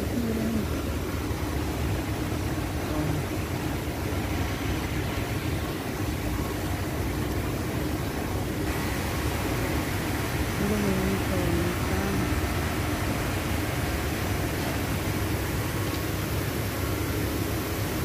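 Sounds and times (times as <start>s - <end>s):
machinery hum and rumble: 0.0s - 18.0s
ventilation fans running: 0.0s - 18.0s.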